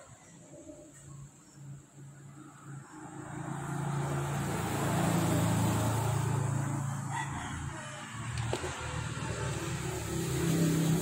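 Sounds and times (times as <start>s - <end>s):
engine running low hum: 0.4s - 11.0s.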